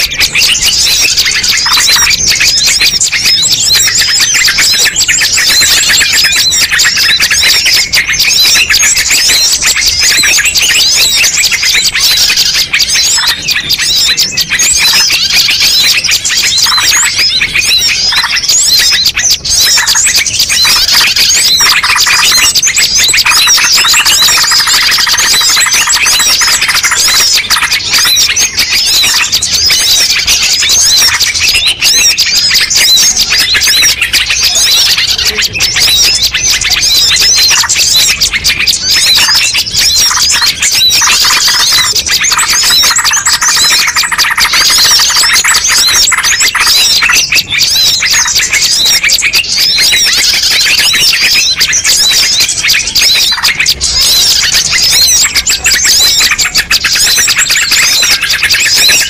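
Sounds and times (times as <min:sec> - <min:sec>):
chorus of small birds chirping: 0:00.0 - 0:59.0.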